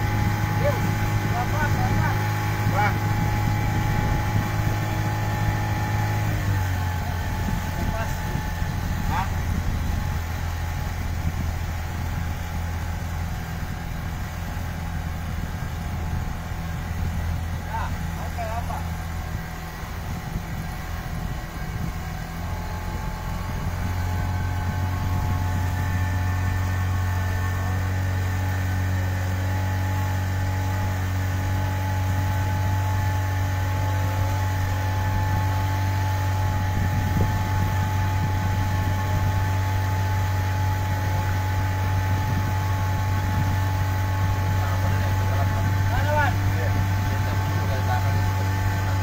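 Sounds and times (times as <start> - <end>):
speedboat engine droning: 0.0 - 49.0.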